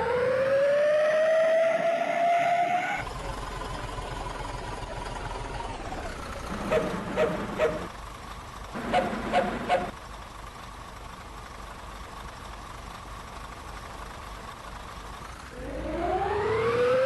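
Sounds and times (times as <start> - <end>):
bus engine running: 2.7 - 17.0.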